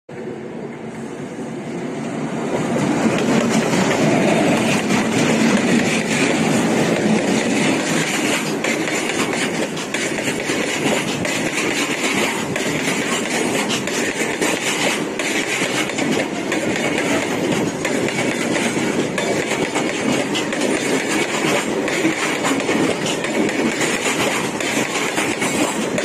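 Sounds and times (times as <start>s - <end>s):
freight train rumbling: 0.1s - 26.0s
wheels clattering over rails: 2.6s - 26.0s.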